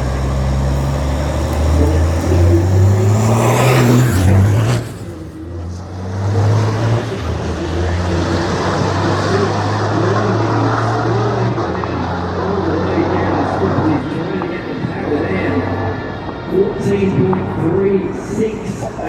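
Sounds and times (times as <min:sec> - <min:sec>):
diesel truck engine revving: 0:00.0 - 0:19.0
engine drone: 0:00.0 - 0:19.0.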